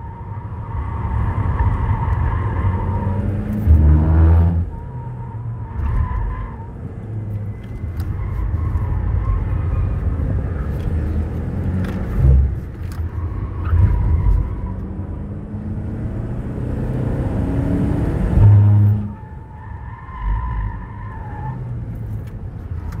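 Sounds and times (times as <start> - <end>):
car engine driven hard: 0.0 - 23.0.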